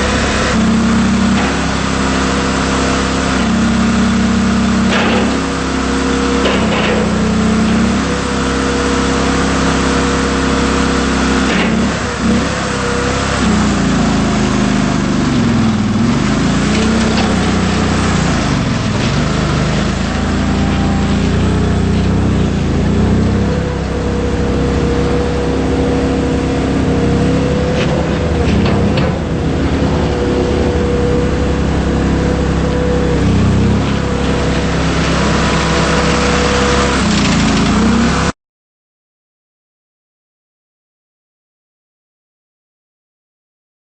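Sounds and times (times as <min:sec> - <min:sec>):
wheel loader engine running: 0:00.0 - 0:38.3.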